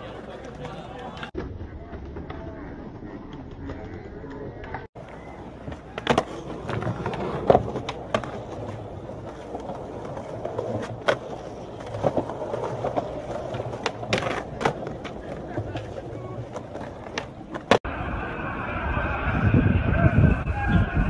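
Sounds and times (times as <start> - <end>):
skateboard clacking on ground: 0.0 - 17.8
skateboard wheels rolling on concrete: 0.0 - 21.0.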